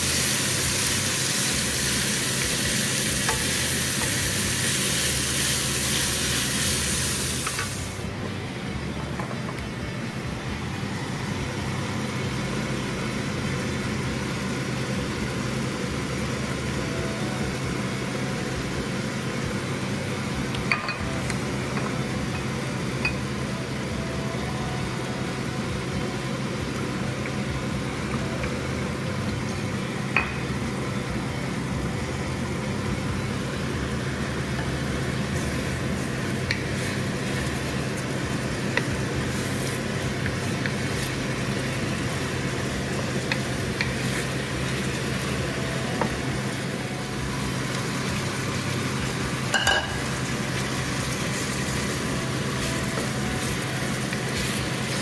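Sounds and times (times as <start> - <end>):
meat sizzling in a wok: 0.0 - 8.2, 10.1 - 55.0.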